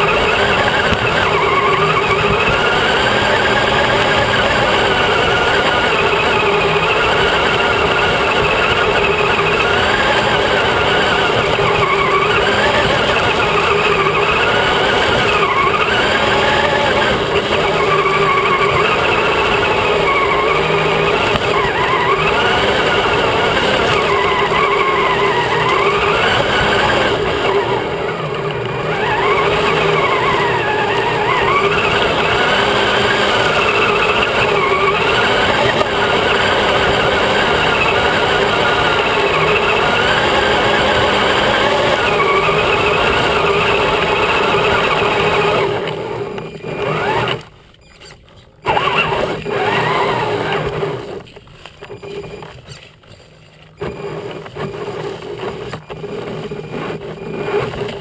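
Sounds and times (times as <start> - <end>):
toy truck motor whining: 0.0 - 58.0.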